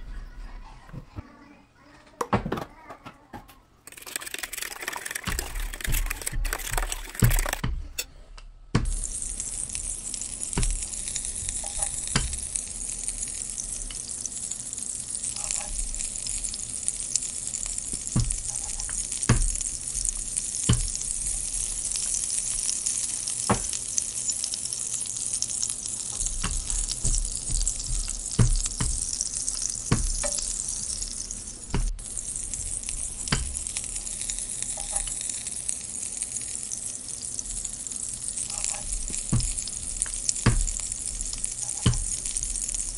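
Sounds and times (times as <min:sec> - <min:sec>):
bread sizzling in oil: 0:03.9 - 0:07.6, 0:08.8 - 0:42.9.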